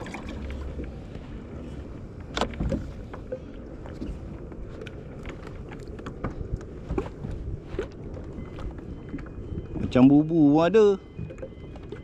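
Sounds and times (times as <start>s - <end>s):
wind rumble on microphone: 0.0s - 10.3s.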